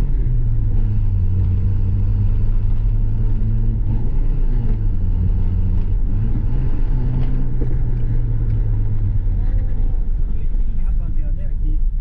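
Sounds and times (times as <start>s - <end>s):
car engine droning at cruise: 0.0s - 12.0s.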